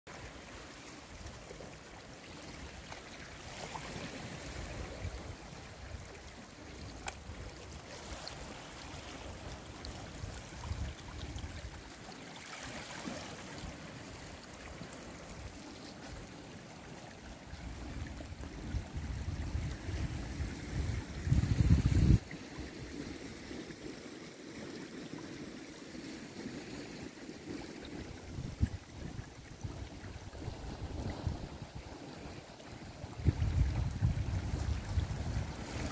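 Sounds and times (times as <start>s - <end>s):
water lapping at shore: 0.1s - 35.9s.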